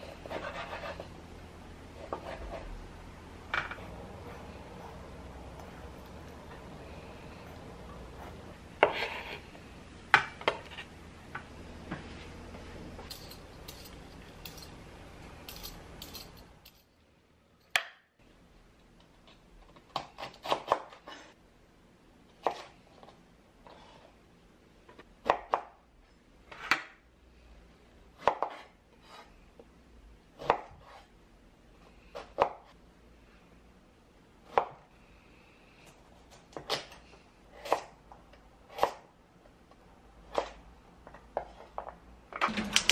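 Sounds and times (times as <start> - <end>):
faint background hum: 0.0 - 42.9.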